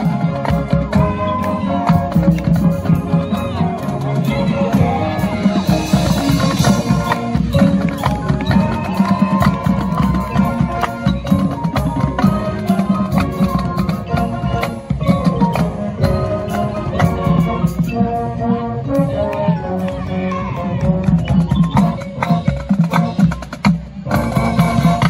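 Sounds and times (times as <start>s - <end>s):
drumline beat: 0.0s - 25.0s
marching band playing: 0.0s - 25.0s.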